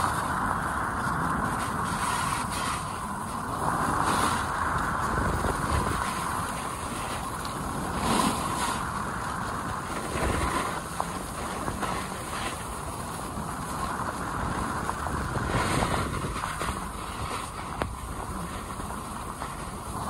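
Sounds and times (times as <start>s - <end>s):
skis sliding over snow: 0.0s - 20.0s
wind rushing over microphone: 0.0s - 20.0s.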